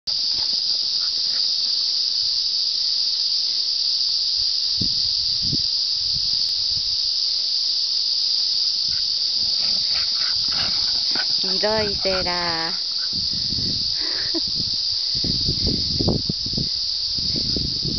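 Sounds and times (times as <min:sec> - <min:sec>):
cicadas buzzing: 0:00.1 - 0:17.9.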